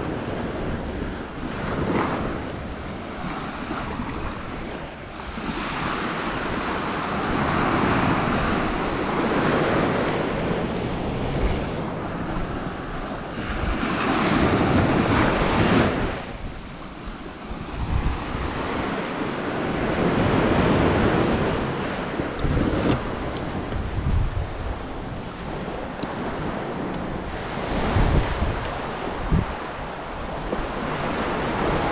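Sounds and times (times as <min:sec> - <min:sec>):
sea waves breaking on beach: 0:00.0 - 0:31.9
wind buffeting microphone: 0:00.0 - 0:31.9.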